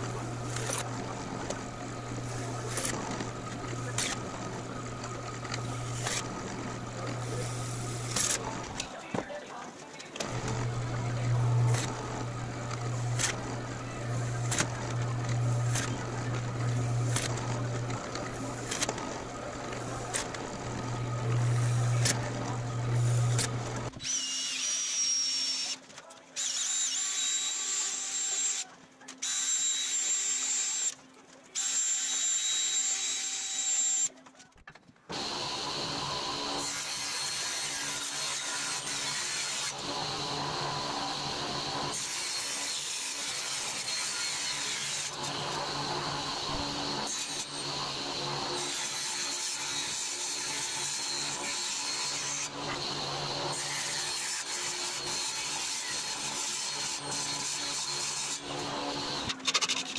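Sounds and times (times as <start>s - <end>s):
cordless drill drilling metal: 0.0s - 8.8s, 10.2s - 25.8s, 26.4s - 31.0s, 35.1s - 59.9s
table saw cutting metal: 0.0s - 8.9s, 10.2s - 25.8s, 26.4s - 31.0s, 31.6s - 34.1s, 35.1s - 59.9s.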